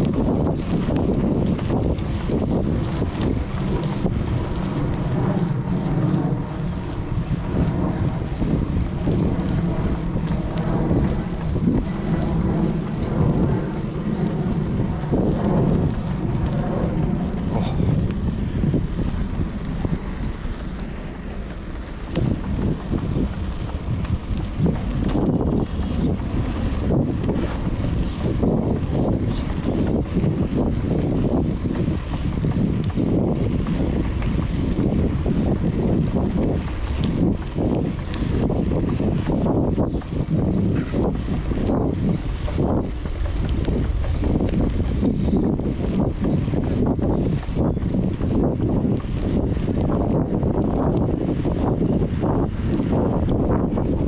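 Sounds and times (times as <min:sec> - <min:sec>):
motor vehicle hum: 0:00.0 - 0:54.0
wind noise on microphone: 0:00.0 - 0:54.0.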